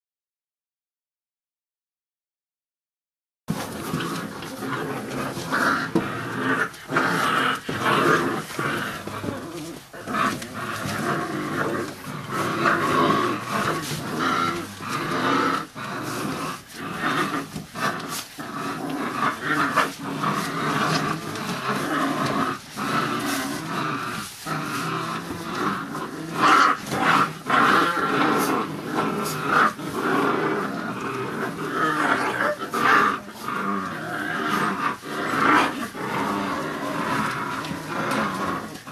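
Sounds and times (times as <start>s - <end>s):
puppies crying and growling: 3.5s - 38.9s.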